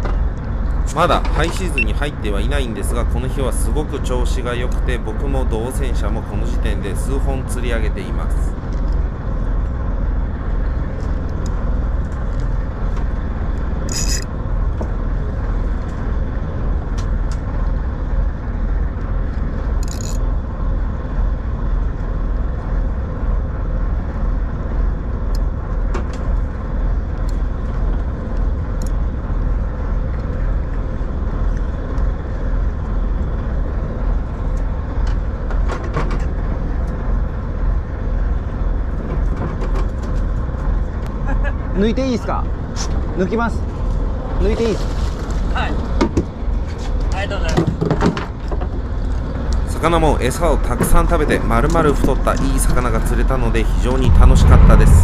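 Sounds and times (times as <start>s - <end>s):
boat engine rumbling: 0.0s - 55.0s.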